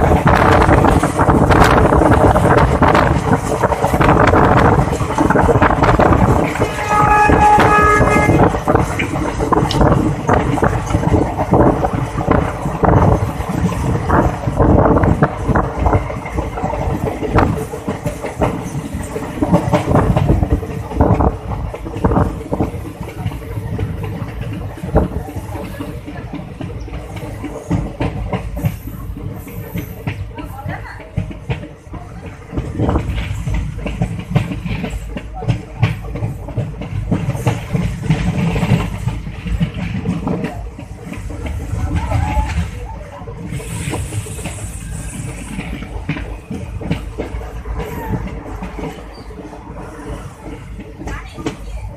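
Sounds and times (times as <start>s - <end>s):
train wheels rumbling: 0.0s - 51.9s.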